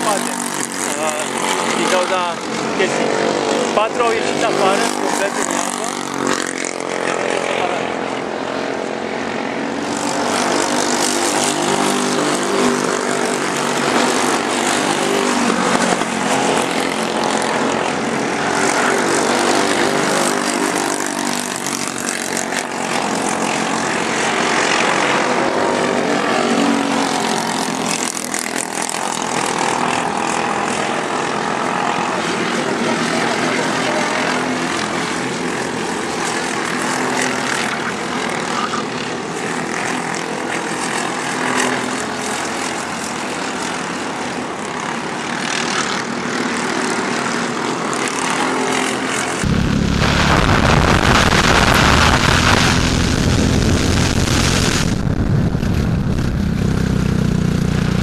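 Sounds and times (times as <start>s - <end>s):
racing kart engines buzzing: 0.0s - 58.0s.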